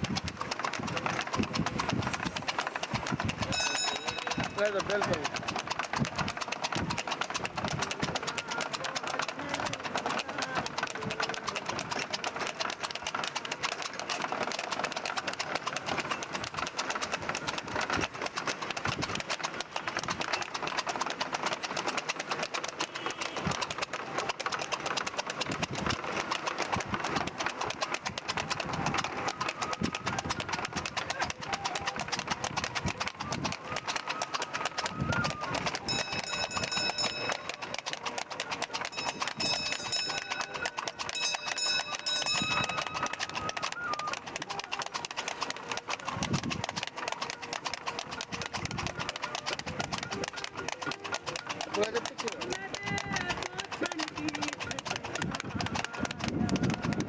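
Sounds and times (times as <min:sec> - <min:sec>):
cart wheels rattling: 0:00.0 - 0:57.0
hooves clip-clopping: 0:00.0 - 0:57.0.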